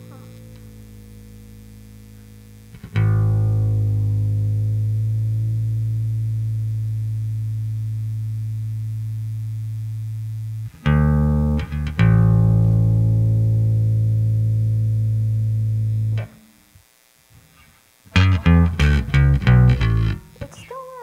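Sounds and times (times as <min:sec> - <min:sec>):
bass guitar string plucked: 0:00.0 - 0:16.5, 0:18.1 - 0:20.6.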